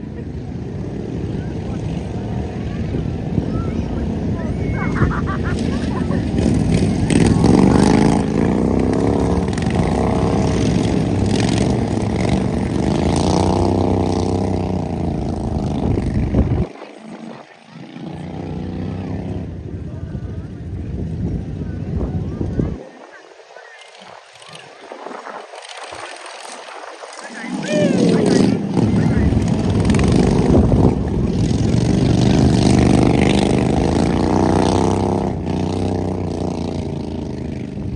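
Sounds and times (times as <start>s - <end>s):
lawn mower engines racing: 0.0s - 37.9s.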